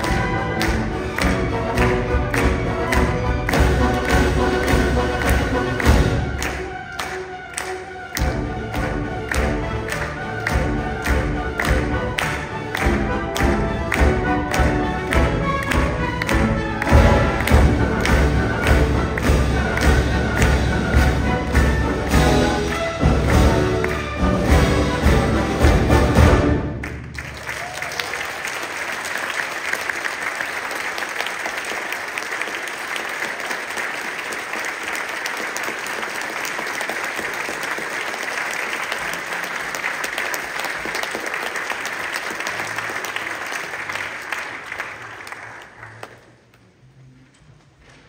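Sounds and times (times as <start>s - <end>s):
audience applause: 0.0s - 46.9s.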